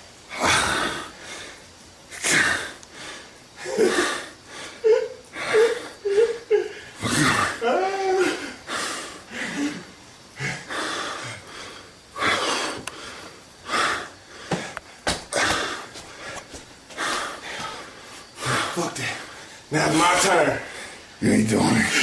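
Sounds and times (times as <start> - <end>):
person breathing hard: 0.3 - 7.6, 8.2 - 19.7, 20.6 - 21.2.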